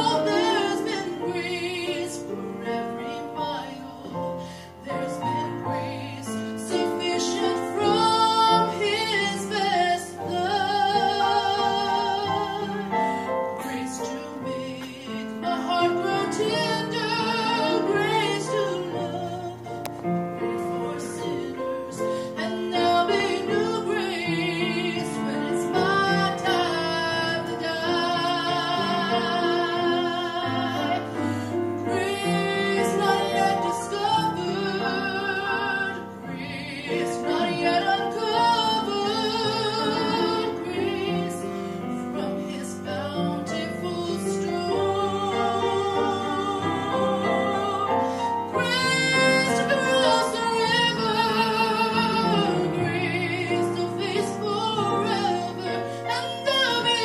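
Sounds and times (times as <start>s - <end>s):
woman singing with vibrato: 0.0s - 19.8s, 20.5s - 41.5s, 42.1s - 57.0s
piano accompaniment: 0.0s - 57.0s.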